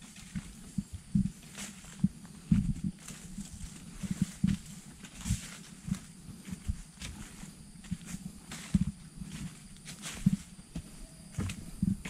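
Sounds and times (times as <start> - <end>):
footsteps on dry leaves: 0.0 - 11.7.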